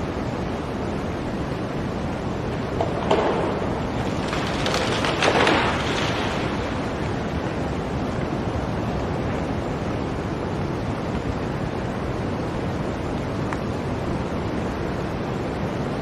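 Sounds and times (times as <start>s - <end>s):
blizzard wind blowing: 0.0s - 16.0s.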